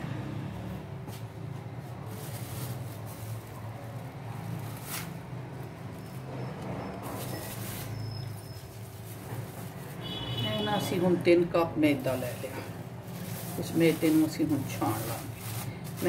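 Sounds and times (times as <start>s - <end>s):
rustling: 1.1s - 6.3s, 7.0s - 11.0s, 11.8s - 16.0s.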